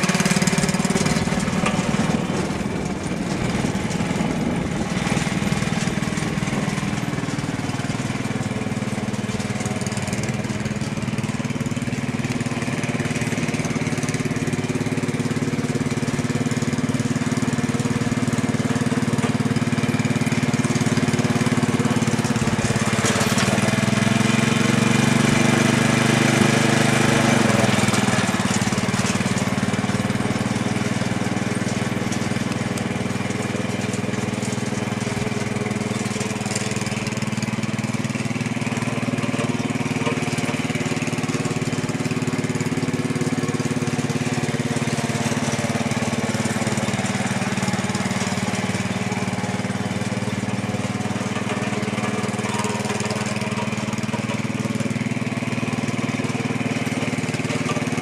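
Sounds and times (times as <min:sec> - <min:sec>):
small tractor engine running: 0:00.0 - 0:58.0.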